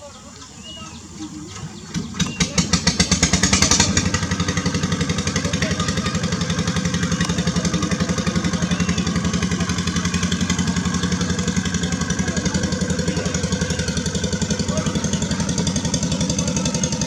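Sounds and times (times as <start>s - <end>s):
small engine chugging: 0.0s - 17.0s.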